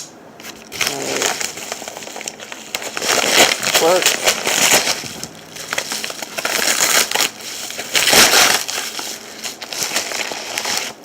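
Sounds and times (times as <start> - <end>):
packaging torn and crumpled: 0.5 - 11.0.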